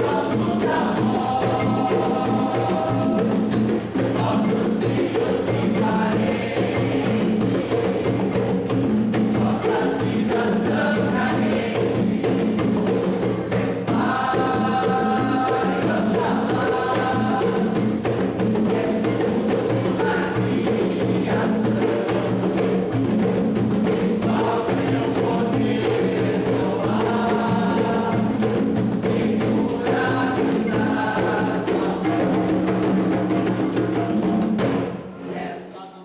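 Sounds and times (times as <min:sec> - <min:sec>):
mixed group singing in chorus: 0:00.0 - 0:36.0.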